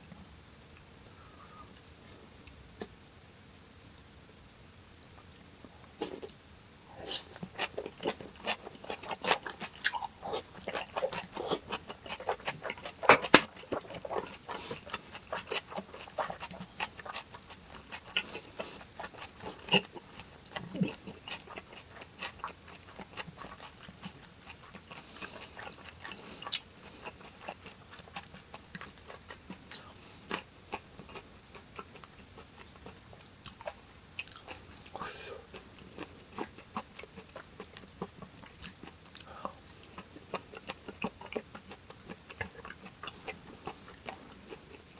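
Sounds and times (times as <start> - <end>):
wet chewing and crunching: 7.0 - 44.9.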